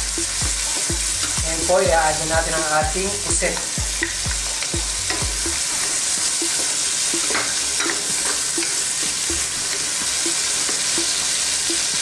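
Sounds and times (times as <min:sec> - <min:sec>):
squid sizzling in oil: 0:00.0 - 0:12.0.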